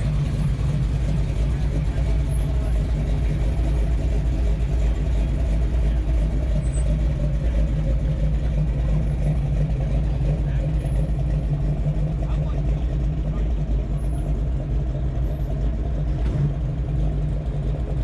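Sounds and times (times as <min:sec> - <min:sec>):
car engine deep exhaust: 0:00.0 - 0:18.0.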